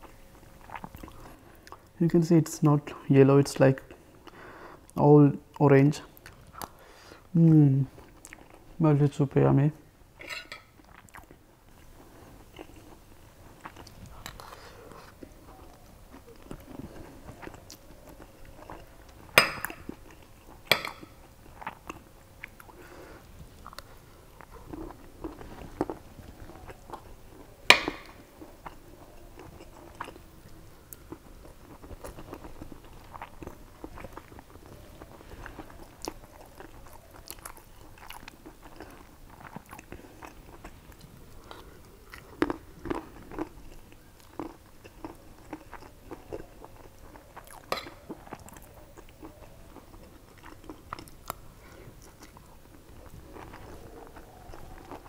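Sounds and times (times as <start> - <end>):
close-up chewing: 0.0 - 2.0, 3.9 - 8.8, 10.6 - 55.0.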